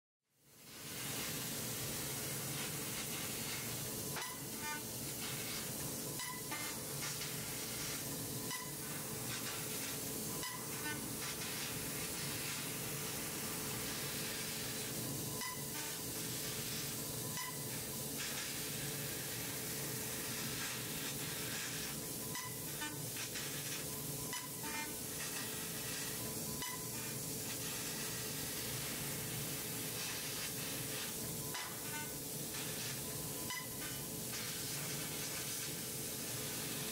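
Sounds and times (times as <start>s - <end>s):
laser cutter gas jet hissing: 0.5s - 36.9s
molten metal sizzling: 0.5s - 36.9s.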